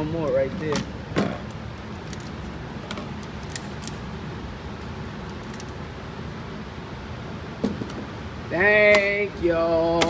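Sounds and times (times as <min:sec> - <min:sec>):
room noise hum and hiss: 0:00.0 - 0:10.0.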